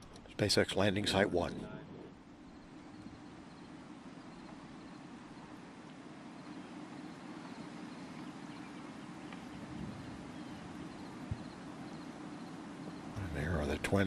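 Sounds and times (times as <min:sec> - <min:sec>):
low outdoor rumble and hiss: 0:00.0 - 0:14.0.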